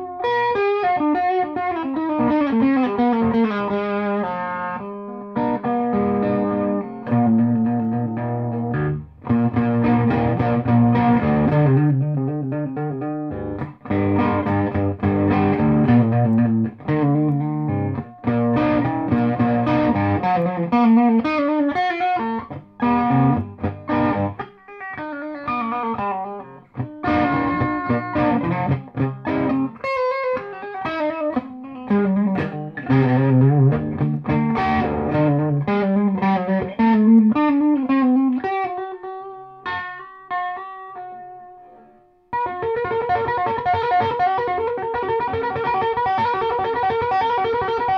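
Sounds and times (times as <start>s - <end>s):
electric guitar playing: 0.0s - 47.9s.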